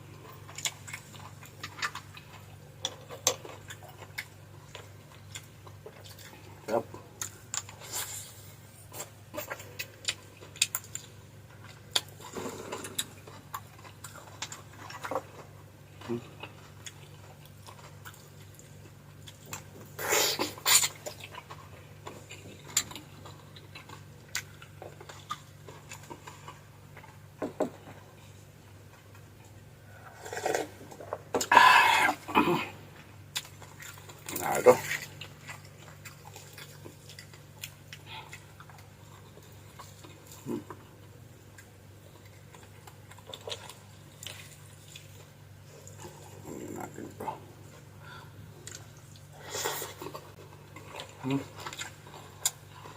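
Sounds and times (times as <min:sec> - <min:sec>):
person chewing: 0:00.0 - 0:52.9
steady low hum: 0:00.0 - 0:52.9.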